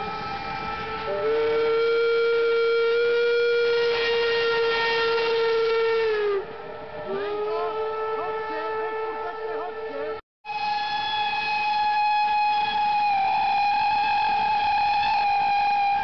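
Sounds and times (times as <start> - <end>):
steam locomotive whistles: 0.0 - 16.0.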